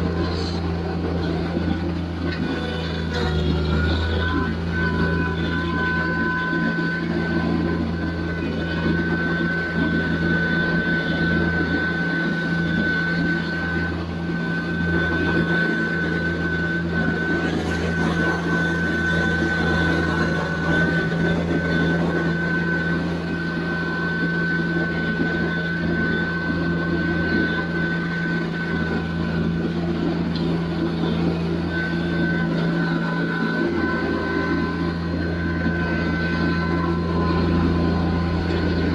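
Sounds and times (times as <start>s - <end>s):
constant high whine: 0.0s - 38.9s
tractor diesel engine running: 0.0s - 38.9s.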